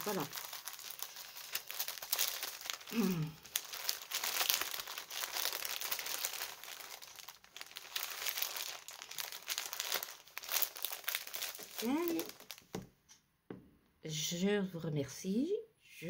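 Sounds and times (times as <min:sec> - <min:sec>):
packaging crinkling: 0:00.0 - 0:12.9.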